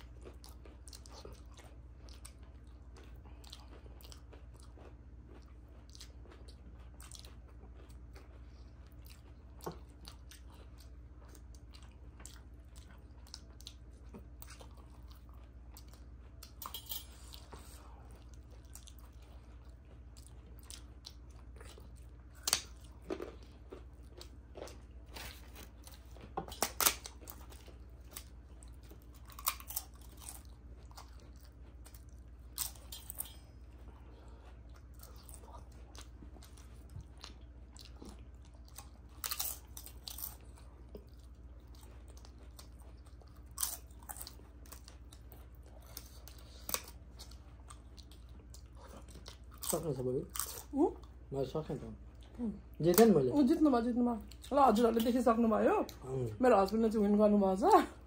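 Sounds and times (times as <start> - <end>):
crunching crisp food: 0.0 - 50.8
faint low hum: 0.0 - 58.0.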